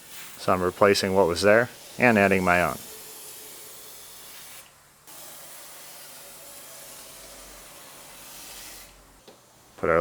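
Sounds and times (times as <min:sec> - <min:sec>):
spray hissing: 0:00.0 - 0:09.0.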